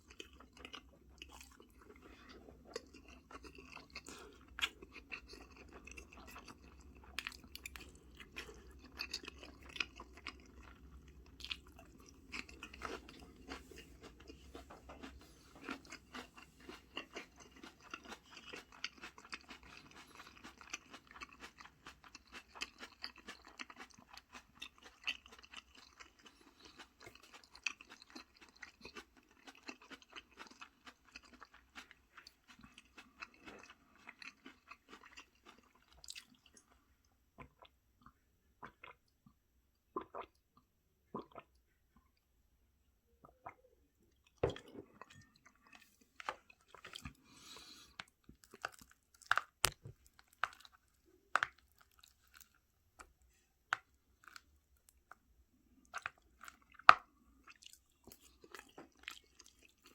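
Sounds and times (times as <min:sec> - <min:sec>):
person chewing: 0:00.0 - 0:39.0, 0:40.0 - 0:40.4, 0:41.1 - 0:41.7, 0:44.2 - 0:55.2, 0:55.8 - 0:59.9.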